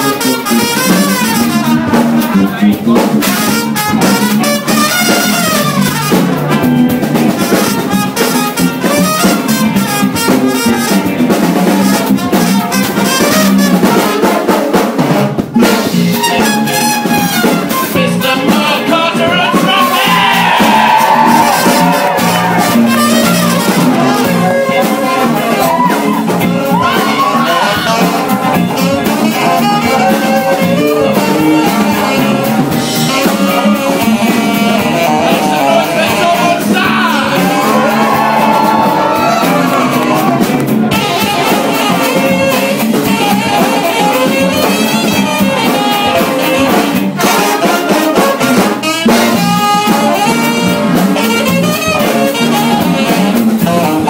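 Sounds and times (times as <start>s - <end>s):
big band jazz: 0.0s - 54.0s.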